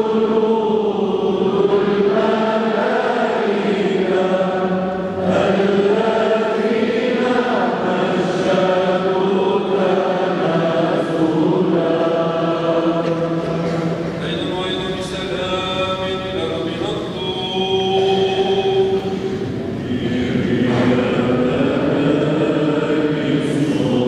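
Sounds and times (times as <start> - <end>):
men chanting a hymn: 0.0 - 24.0.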